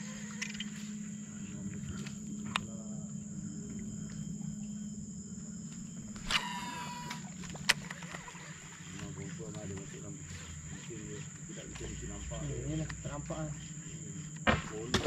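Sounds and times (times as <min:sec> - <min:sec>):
insects droning: 0:00.0 - 0:15.0
low hum: 0:00.0 - 0:15.0.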